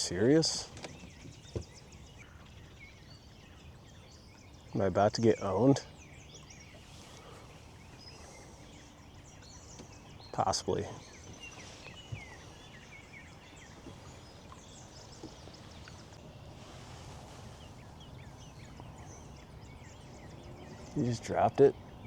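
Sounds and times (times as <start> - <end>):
small birds chirping: 0.0 - 22.0
outdoor background hiss: 4.2 - 22.0.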